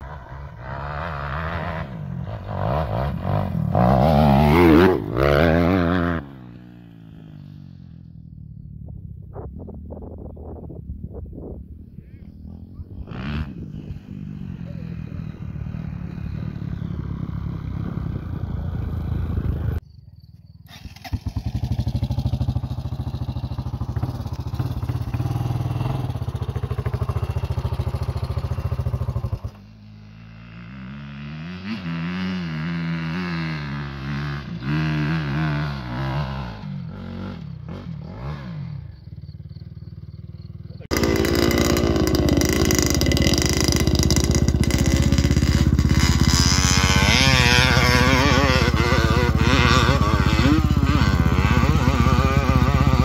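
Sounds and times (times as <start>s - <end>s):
dirt bike engines revving: 0.0s - 9.4s, 11.4s - 19.8s, 20.7s - 53.0s.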